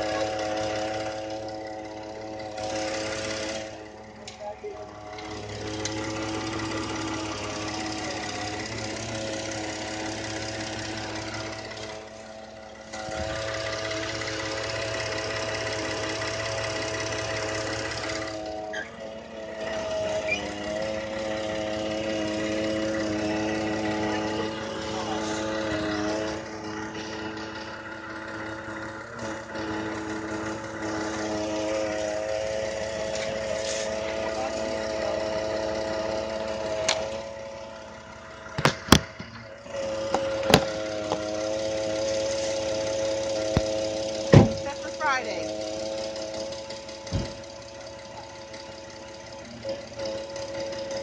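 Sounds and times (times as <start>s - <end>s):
steady whine: 0.0s - 51.0s
truck engine idling: 0.0s - 51.0s.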